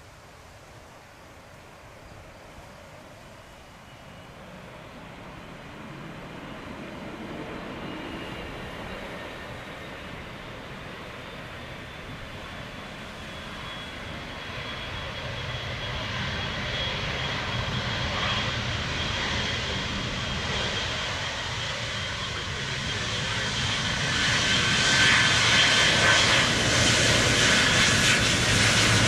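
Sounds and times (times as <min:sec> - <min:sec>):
rushing jet engine noise: 0:00.0 - 0:29.0
jet engine high whine: 0:01.7 - 0:29.0.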